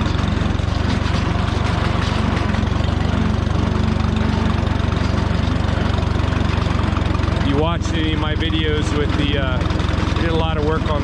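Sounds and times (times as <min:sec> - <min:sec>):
mower cutting grass: 0:00.0 - 0:11.0
tractor engine running: 0:00.0 - 0:11.0.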